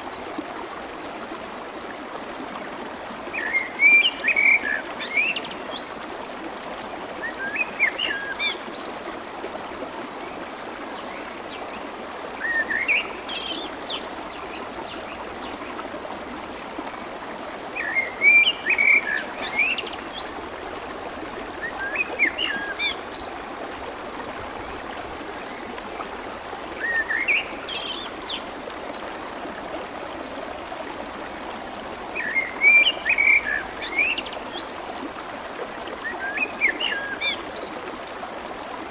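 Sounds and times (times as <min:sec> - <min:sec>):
water babbling in stream: 0:00.0 - 0:38.9.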